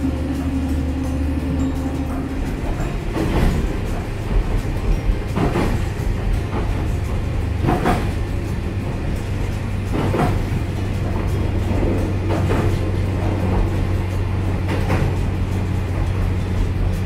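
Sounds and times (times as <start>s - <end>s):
rail car rumbling: 0.0s - 17.0s.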